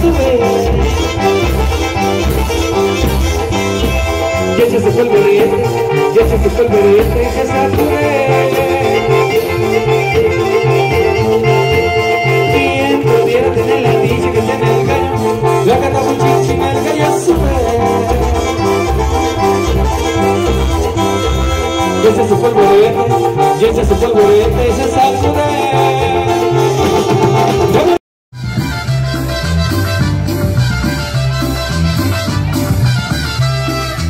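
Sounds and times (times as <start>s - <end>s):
latin dance music with singing: 0.0s - 34.0s.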